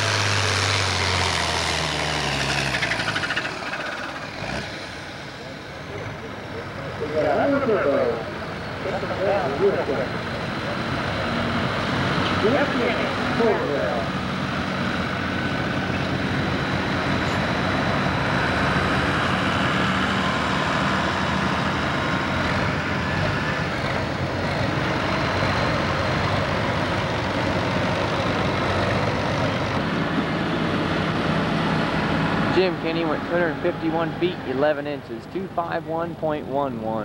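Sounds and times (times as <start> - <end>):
diesel tractor engines running: 0.0 - 37.0
tractor driving by: 0.0 - 37.0.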